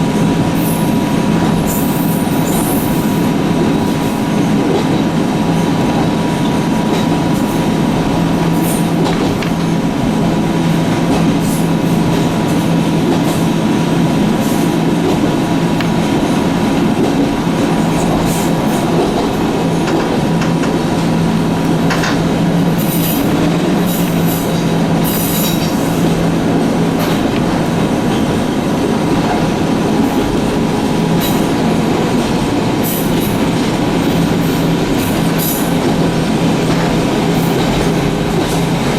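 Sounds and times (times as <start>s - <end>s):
train wheels rumbling: 0.0s - 38.9s
wheels clicking and squeaking on rails: 0.1s - 38.9s.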